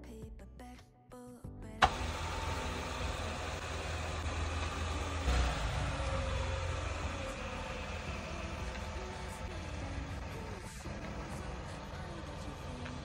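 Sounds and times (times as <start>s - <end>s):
car engine rumbling: 1.8s - 13.0s.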